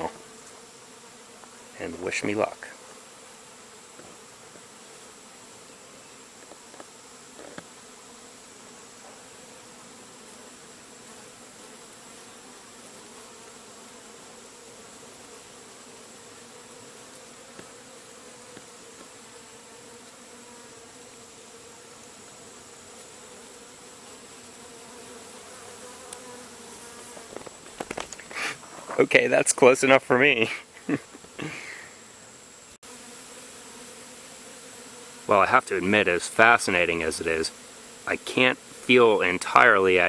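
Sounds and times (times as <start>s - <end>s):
bees droning: 0.0s - 40.0s.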